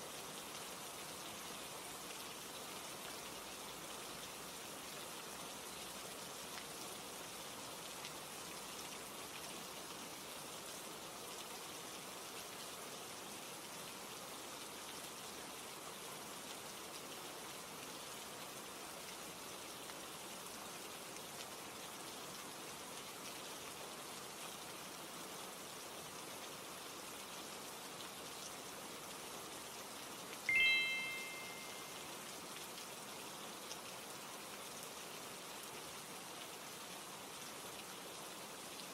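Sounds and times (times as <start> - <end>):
rainfall hiss: 0.0 - 38.9.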